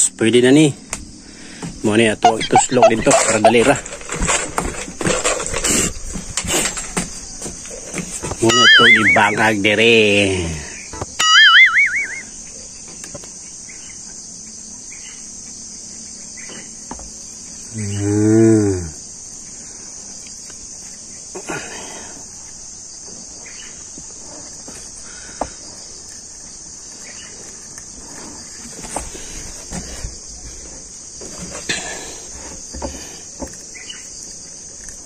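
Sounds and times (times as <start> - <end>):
crickets humming: 0.0 - 35.0.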